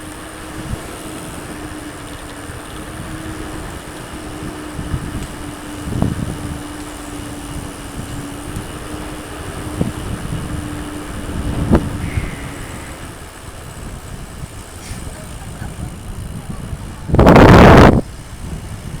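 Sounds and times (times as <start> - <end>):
bike tyre rumble: 0.0 - 19.0
wind: 0.0 - 19.0.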